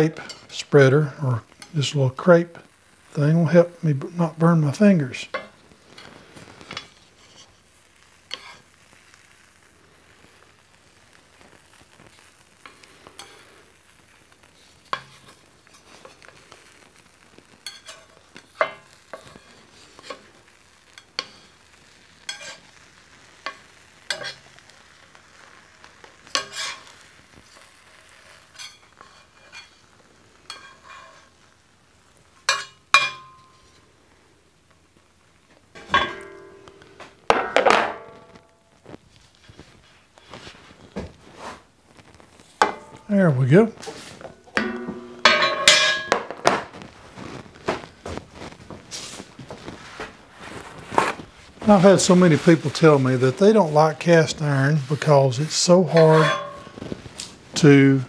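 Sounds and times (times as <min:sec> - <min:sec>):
faint sizzle of egg cooking: 0:00.0 - 0:58.0.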